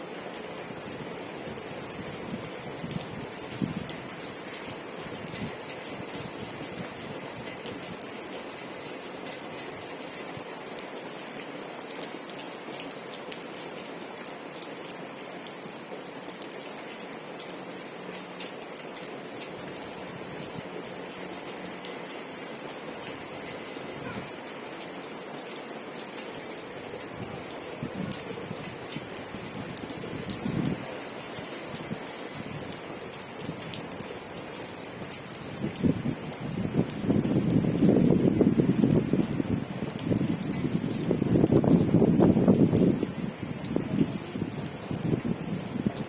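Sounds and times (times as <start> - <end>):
raindrops: 0.0 - 46.0
steady rain falling: 0.0 - 46.0.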